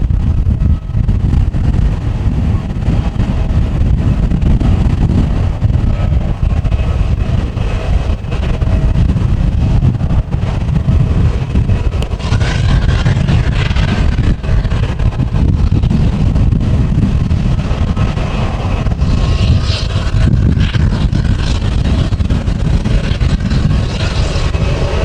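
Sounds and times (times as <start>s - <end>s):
jet engines whining: 0.0s - 25.0s
wind buffeting microphone: 0.0s - 25.0s.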